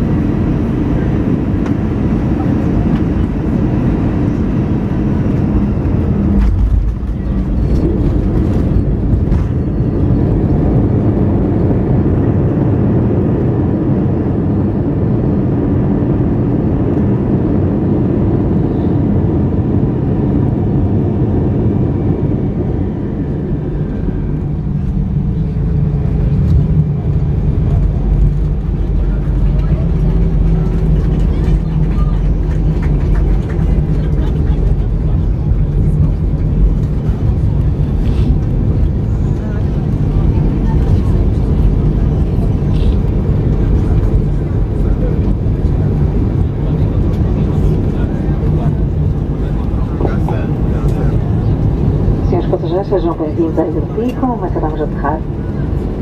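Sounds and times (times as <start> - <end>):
aircraft cabin engine roar: 0.0 - 56.0.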